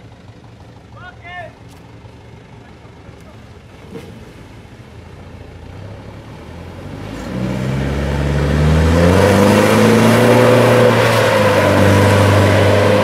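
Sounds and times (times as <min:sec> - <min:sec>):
diesel truck engine revving: 0:01.6 - 0:13.0.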